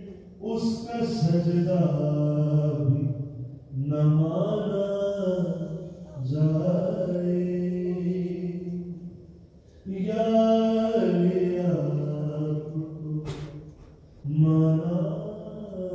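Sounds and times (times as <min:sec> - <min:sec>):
person chanting a devotional melody: 0:00.0 - 0:09.2, 0:09.8 - 0:15.9.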